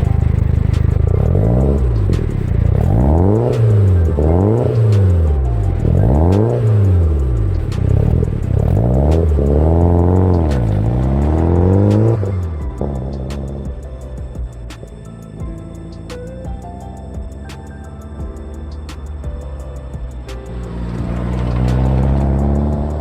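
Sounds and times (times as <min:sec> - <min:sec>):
car engine idling: 0:00.0 - 0:23.0
car engine revving: 0:00.0 - 0:23.0.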